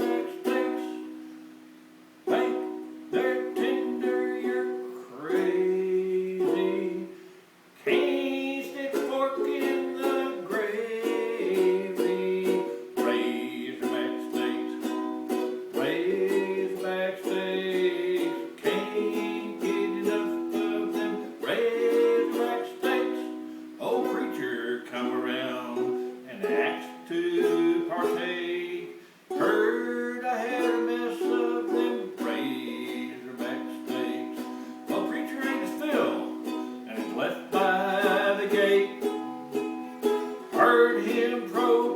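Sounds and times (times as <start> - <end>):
ukulele strumming: 0.0 - 41.9.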